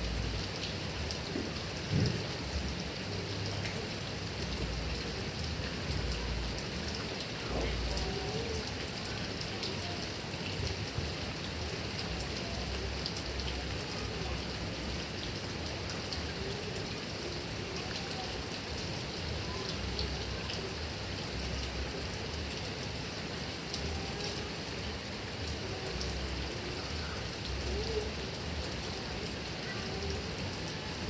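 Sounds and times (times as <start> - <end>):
heavy rain on leaves: 0.0 - 31.0.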